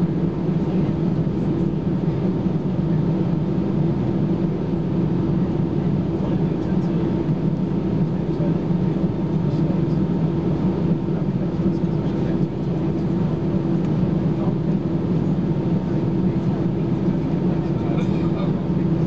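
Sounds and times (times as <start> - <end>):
jet engines idling in cabin: 0.0 - 19.0.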